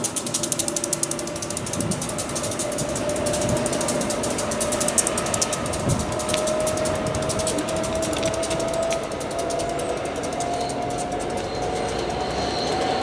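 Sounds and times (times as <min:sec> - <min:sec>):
electric train humming: 0:00.0 - 0:13.0
rapid high-pitched clicking: 0:00.0 - 0:13.0.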